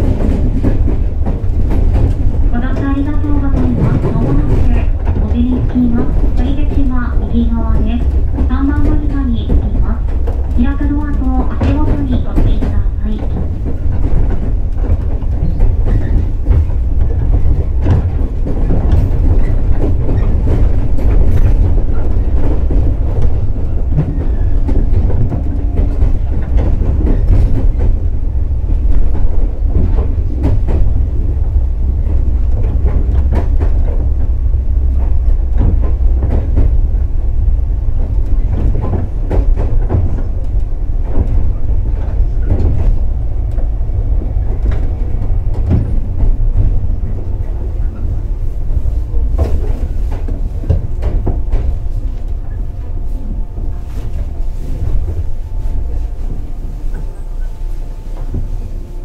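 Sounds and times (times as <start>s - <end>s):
wheels clicking over rail joints: 0.0s - 58.5s
train wheels rumbling: 0.0s - 59.0s.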